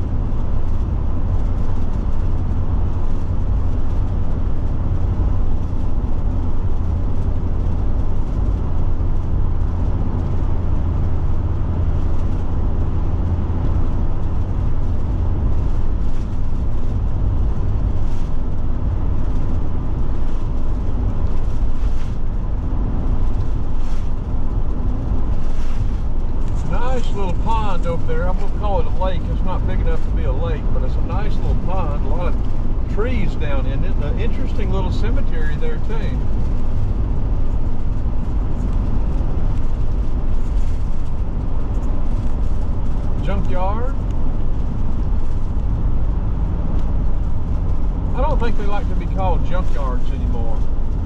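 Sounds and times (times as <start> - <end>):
motorhome engine and tyre drone: 0.0 - 51.0.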